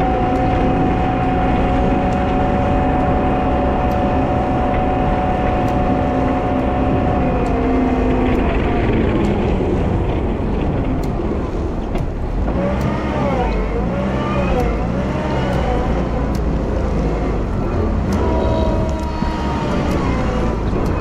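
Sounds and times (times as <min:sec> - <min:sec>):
wheel loader diesel engine: 0:00.0 - 0:21.0.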